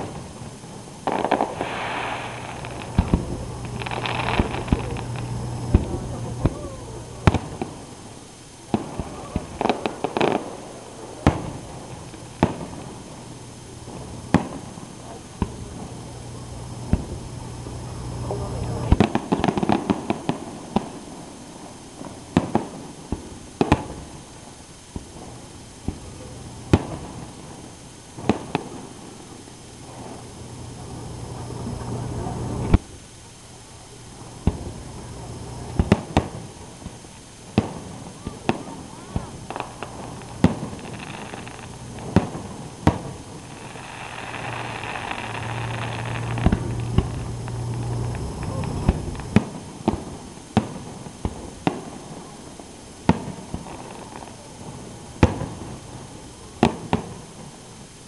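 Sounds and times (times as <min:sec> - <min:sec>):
crackling pops: 0:00.0 - 0:58.0
fireworks bursting bangs: 0:00.0 - 0:58.0.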